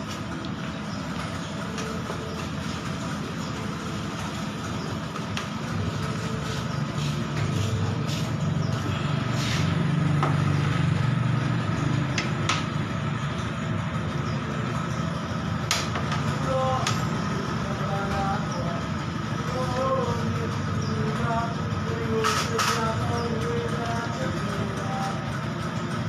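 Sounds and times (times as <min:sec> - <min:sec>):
engine hum: 0:00.0 - 0:26.0.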